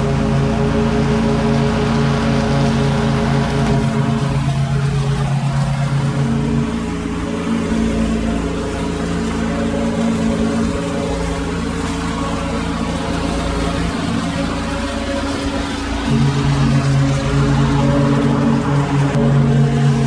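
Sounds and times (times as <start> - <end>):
mower cutting tall grass: 0.0 - 20.0
riding mower running: 0.0 - 20.0.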